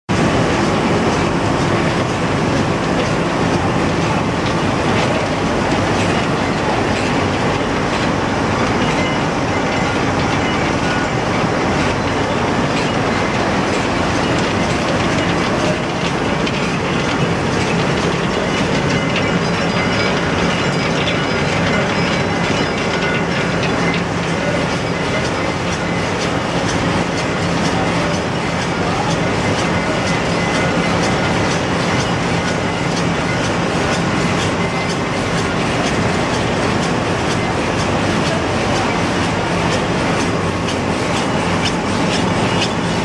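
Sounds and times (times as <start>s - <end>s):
pellet mill running: 0.1s - 43.0s.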